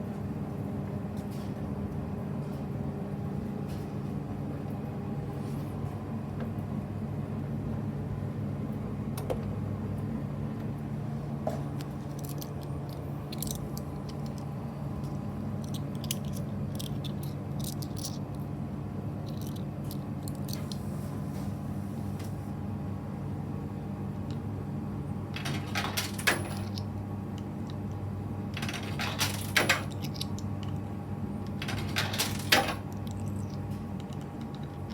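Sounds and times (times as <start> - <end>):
washing machine motor hum: 0.0 - 34.9.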